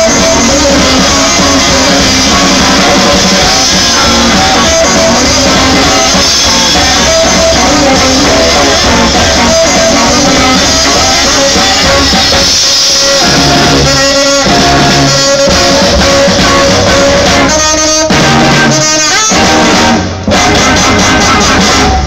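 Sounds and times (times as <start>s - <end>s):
drum kit: 0.0s - 22.0s
swing band playing: 0.0s - 22.0s.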